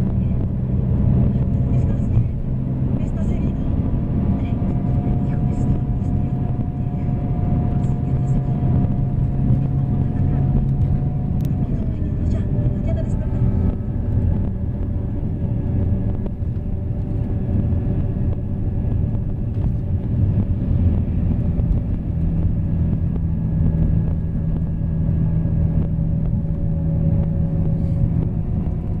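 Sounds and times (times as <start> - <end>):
diesel engine rumble: 0.0 - 29.0.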